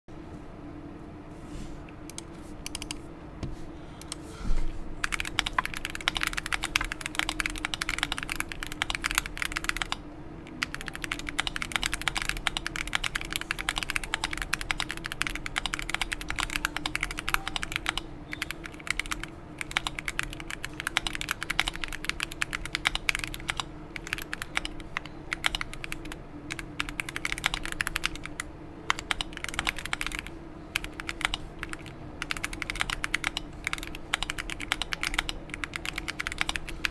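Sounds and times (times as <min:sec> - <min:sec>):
mechanical keyboard typing: 0:02.1 - 0:03.0, 0:05.0 - 0:36.9.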